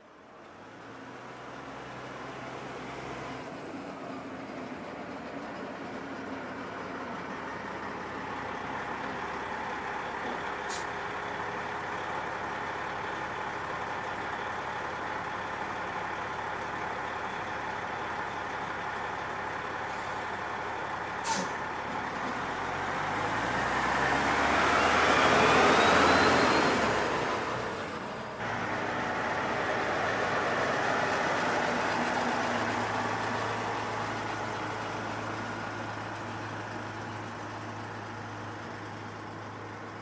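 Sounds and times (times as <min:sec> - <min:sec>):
diesel truck running: 0:00.0 - 0:40.0.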